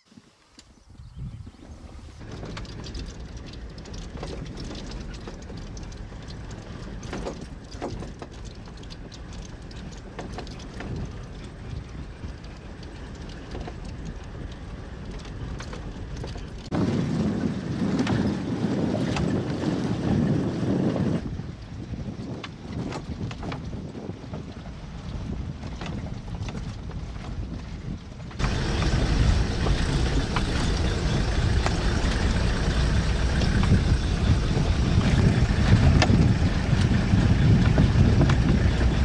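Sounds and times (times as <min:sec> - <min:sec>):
vehicle rumbling over rough track: 0:00.8 - 0:39.0
rattles and knocks: 0:02.2 - 0:16.8, 0:22.3 - 0:39.0.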